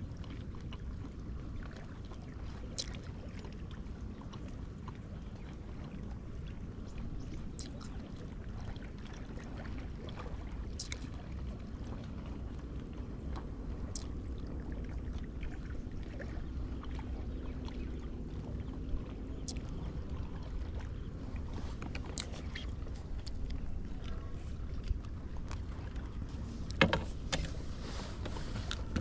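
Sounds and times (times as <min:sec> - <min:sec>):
water noise: 0:00.0 - 0:29.0
wind: 0:00.0 - 0:29.0.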